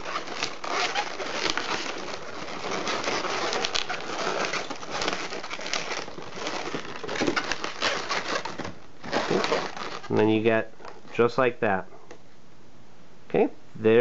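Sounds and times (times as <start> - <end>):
balloons squeaking and rubbing: 0.0 - 11.3.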